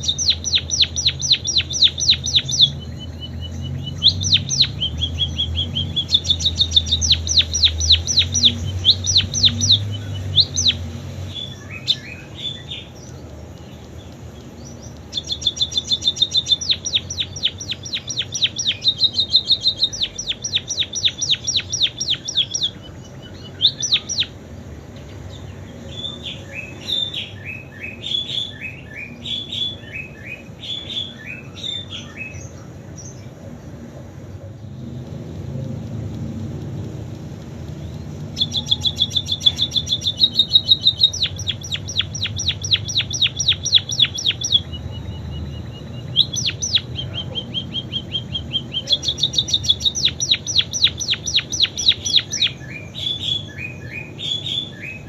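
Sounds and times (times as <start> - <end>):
bird singing trills: 0.0 - 35.2, 37.5 - 55.0.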